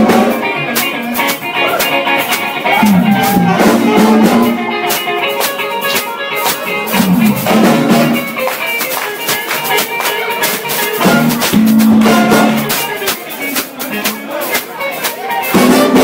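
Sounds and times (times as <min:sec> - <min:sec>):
drum kit beat: 0:00.0 - 0:16.0
jazz big band playing: 0:00.0 - 0:16.0.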